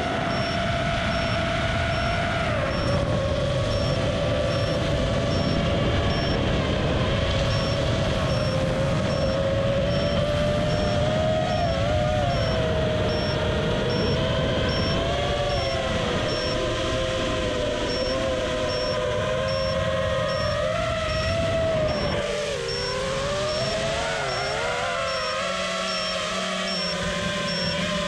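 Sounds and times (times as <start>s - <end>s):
drone motors whining: 0.0s - 28.0s
faint high beeps: 0.2s - 6.6s, 7.4s - 28.0s.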